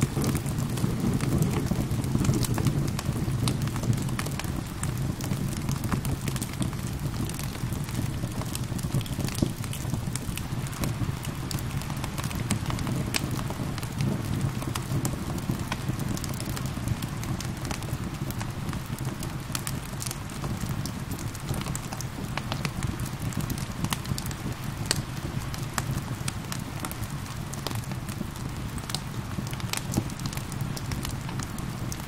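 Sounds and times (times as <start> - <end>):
rain rumble: 0.0 - 32.0
wood fire crackling and popping: 0.0 - 32.0.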